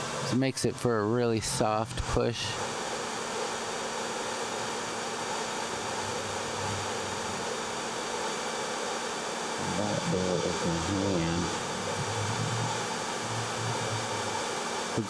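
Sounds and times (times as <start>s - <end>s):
hair dryer running: 0.0s - 15.0s.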